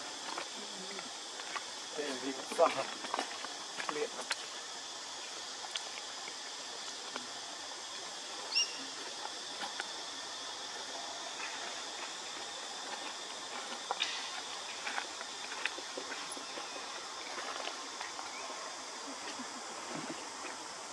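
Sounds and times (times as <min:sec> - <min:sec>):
outdoor background hiss: 0:00.0 - 0:20.9.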